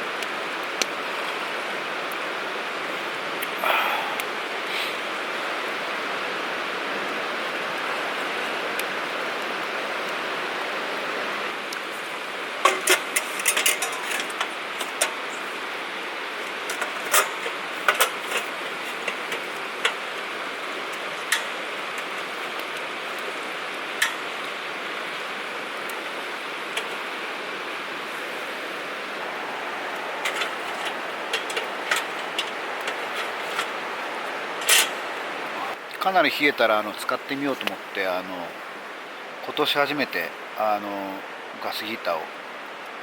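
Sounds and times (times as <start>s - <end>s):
campfire hissing: 0.0s - 43.0s
fire pops and crackles: 0.1s - 4.8s, 7.6s - 10.9s, 11.5s - 27.1s, 28.0s - 39.1s.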